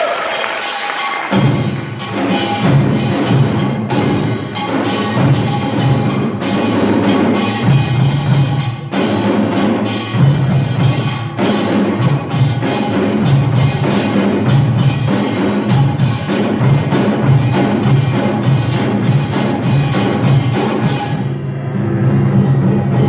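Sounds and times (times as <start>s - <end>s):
drums beating fast rhythm: 0.0s - 23.0s.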